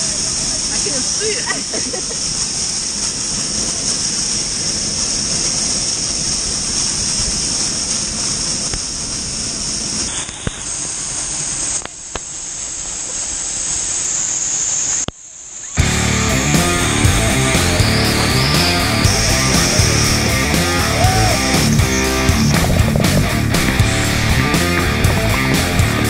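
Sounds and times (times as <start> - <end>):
waterfall pouring onto camera: 0.0 - 14.2, 15.8 - 26.0.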